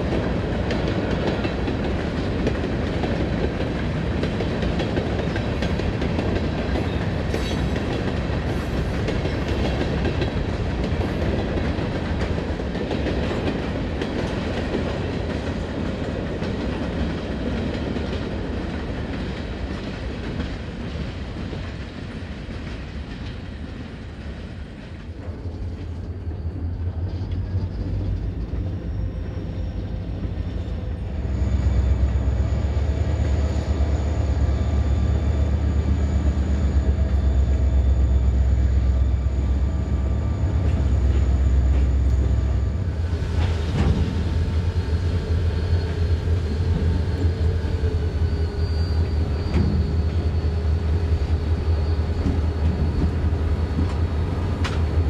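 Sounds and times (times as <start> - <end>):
diesel locomotive engines droning: 0.0 - 55.0
freight train rolling past: 0.0 - 55.0.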